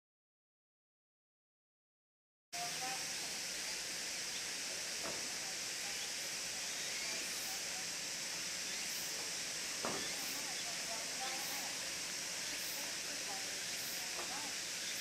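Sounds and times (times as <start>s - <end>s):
faint chirps: 2.6s - 15.0s
steady high hiss: 2.6s - 15.0s.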